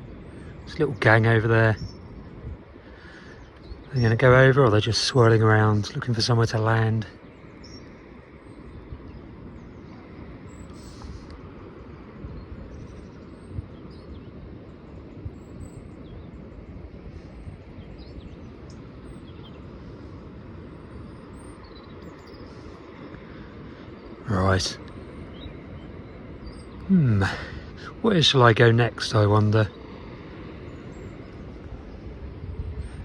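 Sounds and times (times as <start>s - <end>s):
low outdoor rumble: 0.0s - 33.0s
small birds chirping: 0.0s - 33.0s.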